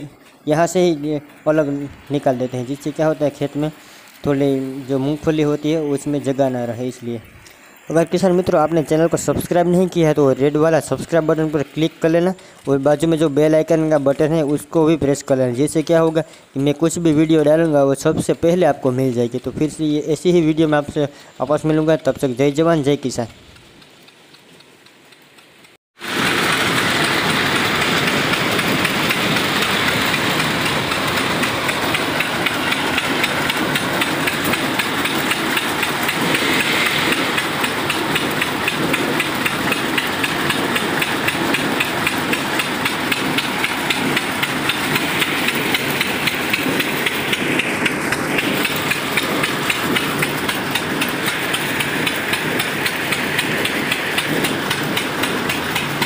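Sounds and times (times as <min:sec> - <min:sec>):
engine running: 0:00.0 - 0:17.8, 0:23.2 - 0:56.0
machine rattling: 0:00.0 - 0:56.0.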